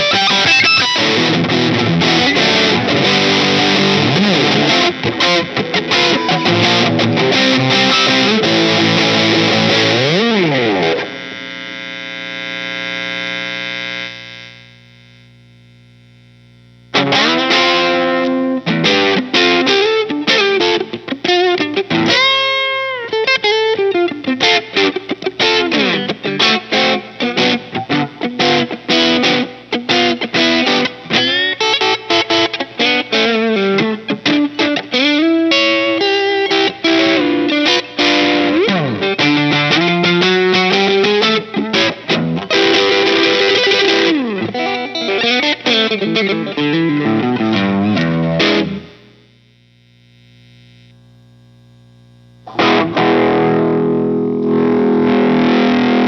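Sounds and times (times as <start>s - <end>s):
distorted electric guitar riffing: 0.0s - 56.0s.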